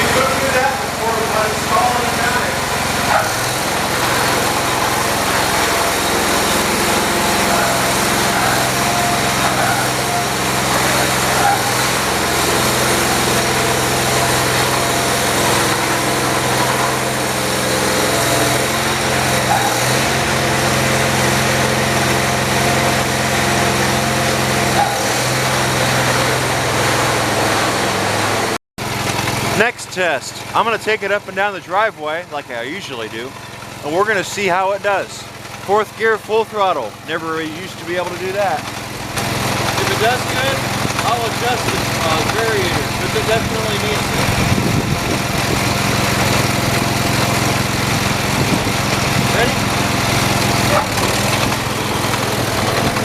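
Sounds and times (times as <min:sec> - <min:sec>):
lawn tractor engine running: 0:00.0 - 0:53.0.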